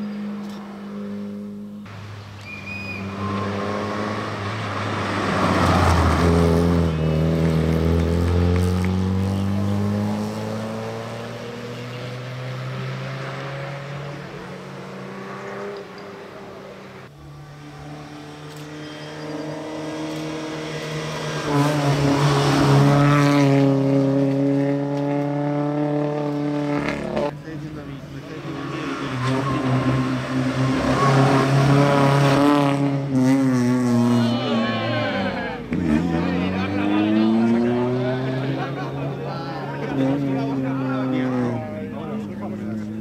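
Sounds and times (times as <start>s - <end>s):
rally car engine passing: 0.0s - 43.0s.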